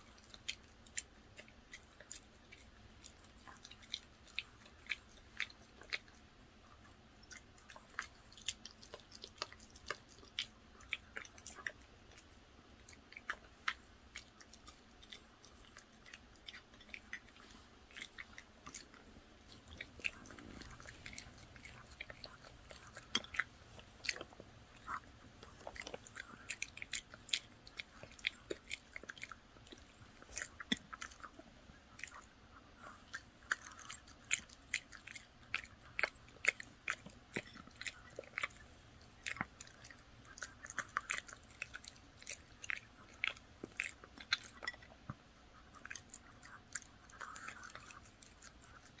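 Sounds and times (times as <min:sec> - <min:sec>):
dog chewing crunchy food: 0:00.0 - 0:49.0.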